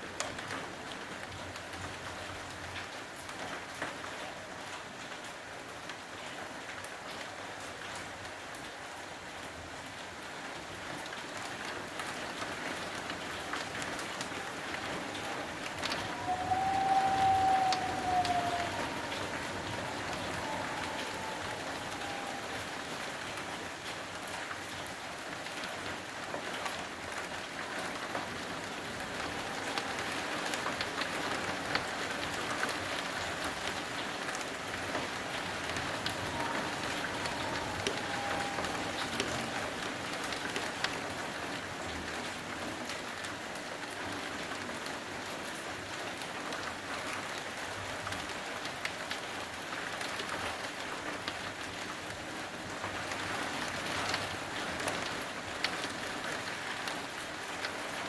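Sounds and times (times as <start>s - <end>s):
raindrops ticking close by: 0.0s - 58.0s
steady rain falling: 0.0s - 58.0s.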